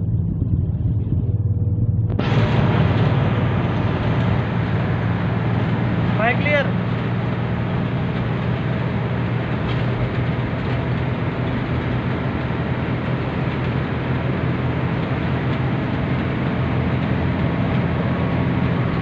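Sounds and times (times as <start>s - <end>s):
bus engine drone: 0.0s - 19.0s
road and wind noise: 0.0s - 19.0s.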